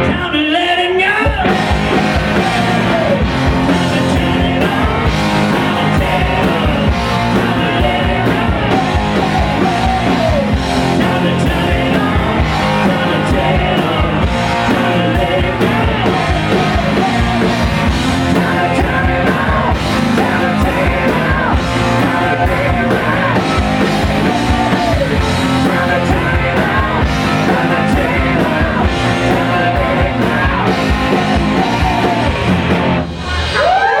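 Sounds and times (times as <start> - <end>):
rock band with singing: 0.0 - 34.0.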